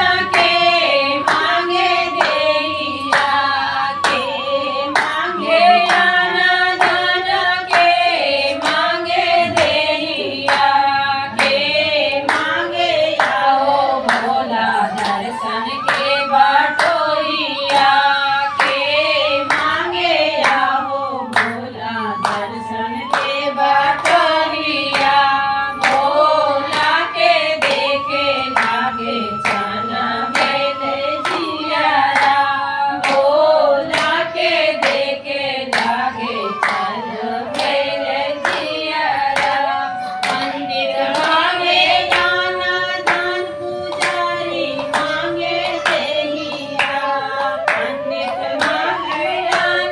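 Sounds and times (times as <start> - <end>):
hand-clapping: 0.0 - 49.9
women singing devotional song: 0.0 - 49.9.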